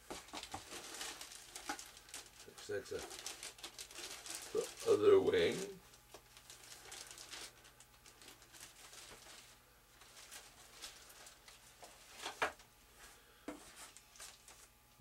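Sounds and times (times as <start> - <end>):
plastic wrapping rustling: 0.0 - 14.8.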